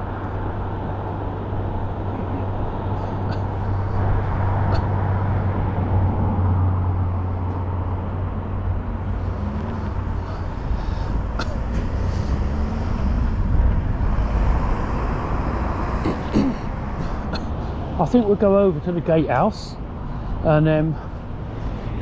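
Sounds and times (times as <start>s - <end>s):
low engine hum: 0.0s - 22.0s
road traffic noise: 0.0s - 22.0s.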